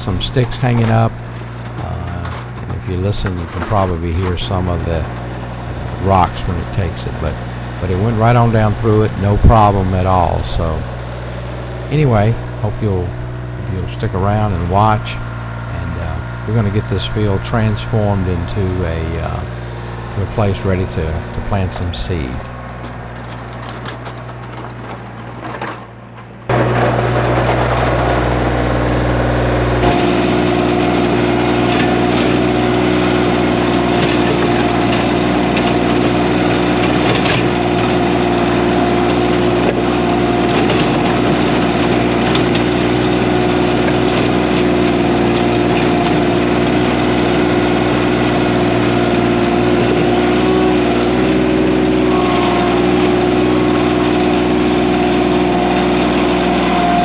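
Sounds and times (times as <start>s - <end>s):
rotary tiller churning ground: 0.0s - 57.0s
tractor diesel engine running: 0.0s - 57.0s.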